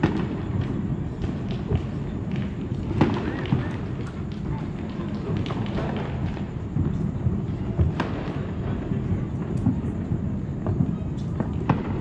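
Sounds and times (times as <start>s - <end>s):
fireworks booming: 0.0s - 12.0s
fireworks cracking: 0.0s - 12.0s.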